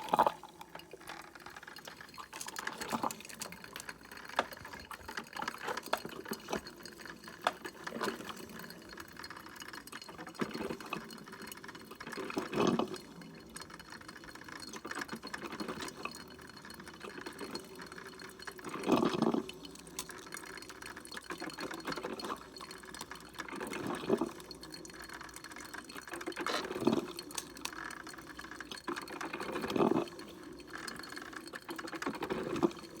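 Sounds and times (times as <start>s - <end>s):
coffee maker gurgling and sputtering: 0.0s - 33.0s
small crackles and drips: 0.0s - 33.0s.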